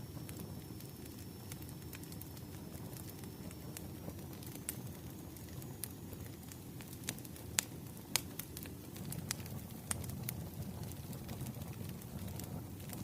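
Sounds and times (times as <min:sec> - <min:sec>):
sharp fire pops and snaps: 0:00.0 - 0:13.0
wood fire crackling: 0:00.0 - 0:13.0.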